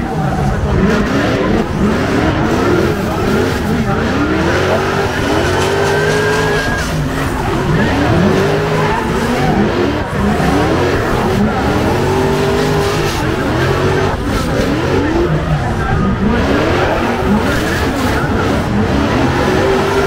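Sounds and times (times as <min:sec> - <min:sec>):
car engine revving: 0:00.0 - 0:20.0
tyres squealing: 0:00.0 - 0:20.0.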